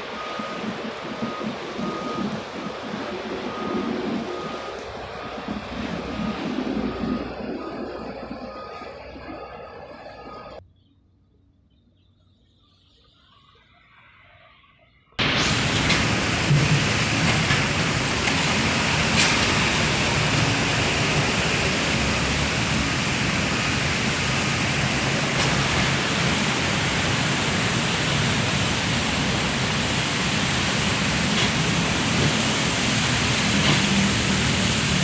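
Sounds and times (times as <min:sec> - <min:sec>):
loud steady rushing noise: 0:00.0 - 0:10.6, 0:15.2 - 0:35.0.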